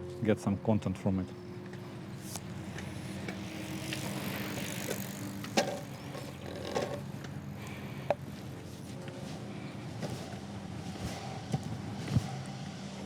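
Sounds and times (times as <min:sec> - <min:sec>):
longboard wheels rolling on pavement: 0:01.7 - 0:13.0.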